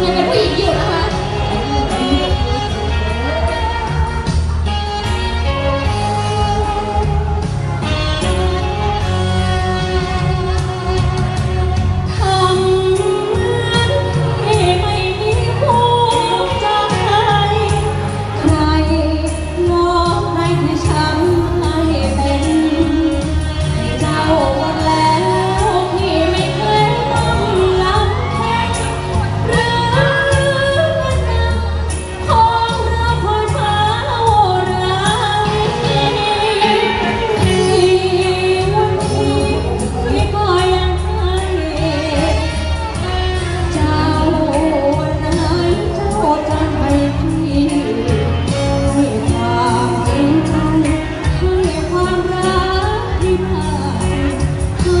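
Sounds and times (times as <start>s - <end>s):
amplified band backing: 0.0s - 55.0s
woman singing into a microphone: 0.0s - 55.0s.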